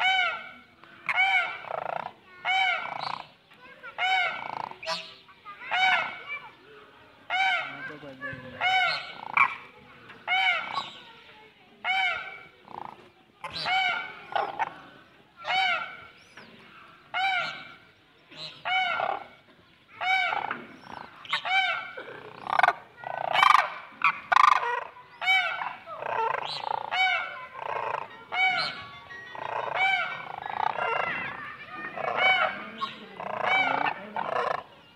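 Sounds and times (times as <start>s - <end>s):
partridges calling: 0.0s - 6.6s, 7.3s - 11.1s, 11.8s - 34.9s.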